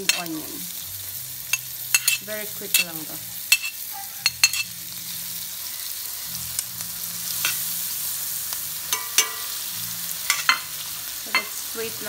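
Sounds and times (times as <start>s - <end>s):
garlic and onion sizzling: 0.0s - 12.0s.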